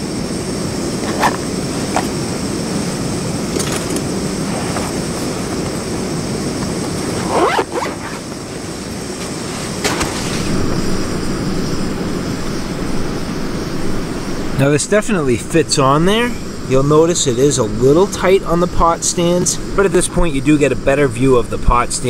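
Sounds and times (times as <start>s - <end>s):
gas burner roaring: 0.0s - 22.0s.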